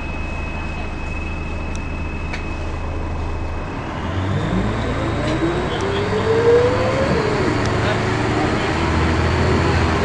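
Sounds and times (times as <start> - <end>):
bus engine accelerating: 0.0 - 10.0.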